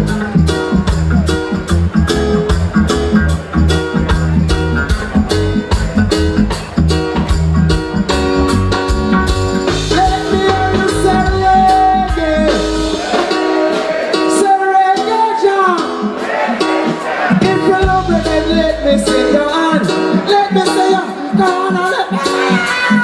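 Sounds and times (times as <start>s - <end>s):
bending melody line: 0.0s - 13.7s, 17.4s - 23.0s
bass guitar: 0.0s - 23.0s
reggae band playing: 0.0s - 23.0s.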